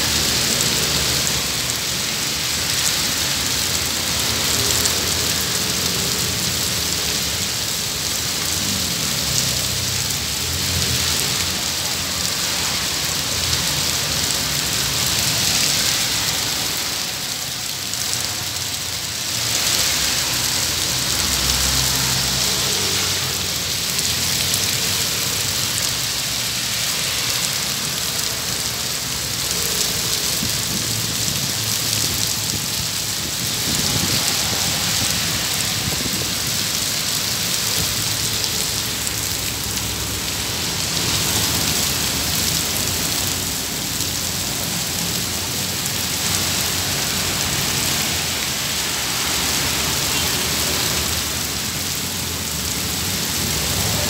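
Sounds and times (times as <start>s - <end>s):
heavy rain pouring: 0.0s - 54.0s
rain hitting metal fence: 0.0s - 54.0s.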